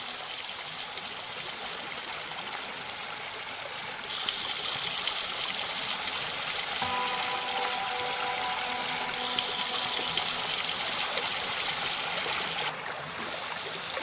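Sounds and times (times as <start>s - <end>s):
stream rushing over stones: 0.0s - 14.0s.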